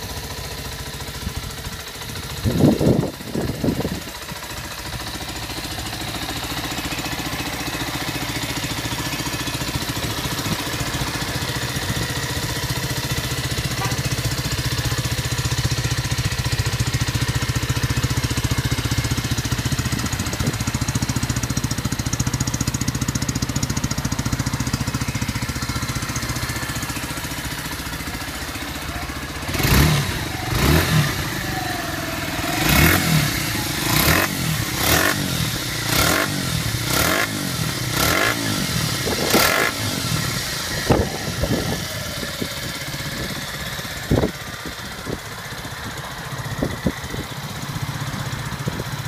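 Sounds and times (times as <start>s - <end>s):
motorcycle engine idling and revving: 0.0s - 49.0s.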